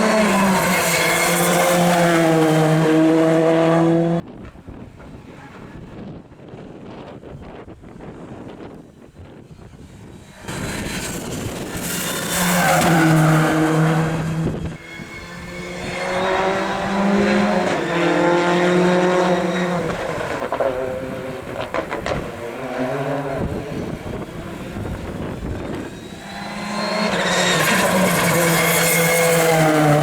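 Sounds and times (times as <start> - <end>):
rally car engine at high revs: 0.0 - 4.2, 10.1 - 30.0.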